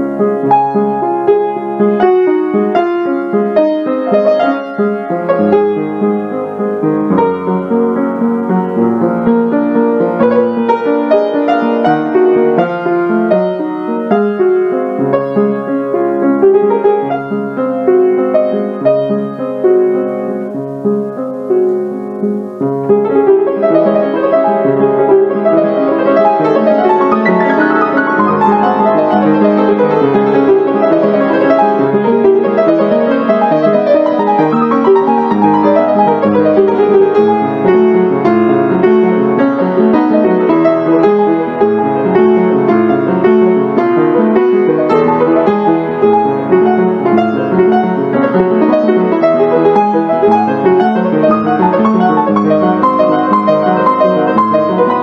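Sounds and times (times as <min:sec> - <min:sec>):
instrumental piano music: 0:00.0 - 0:55.0.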